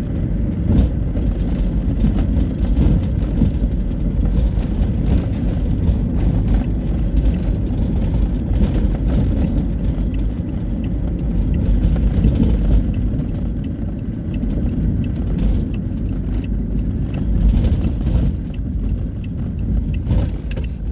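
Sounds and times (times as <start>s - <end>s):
highway traffic rumble: 0.0s - 20.9s.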